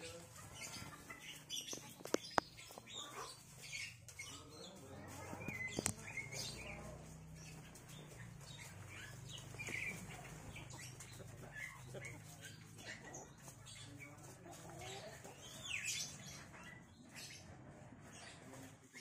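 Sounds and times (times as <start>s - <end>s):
chickens clucking: 0.0s - 19.0s
small birds chirping: 0.0s - 19.0s.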